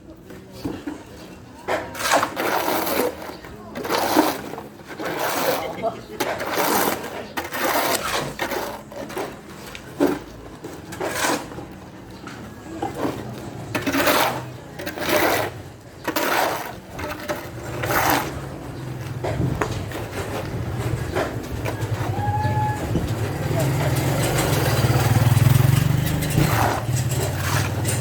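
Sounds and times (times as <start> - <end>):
rough scraping strokes: 1.7 - 10.3, 10.9 - 11.7, 12.9 - 18.6, 19.3 - 28.0.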